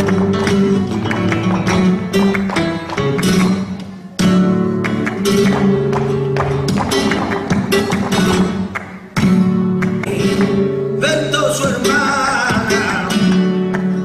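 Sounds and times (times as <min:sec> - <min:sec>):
flamenco acoustic guitar strumming: 0:00.0 - 0:14.0.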